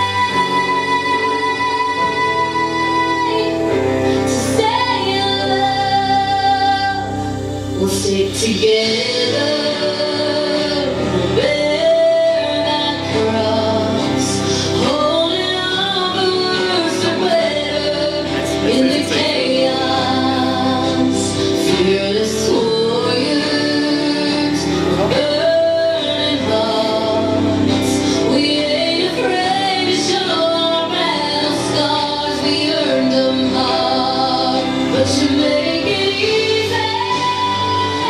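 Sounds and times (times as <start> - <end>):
woman singing: 0.0 - 38.0.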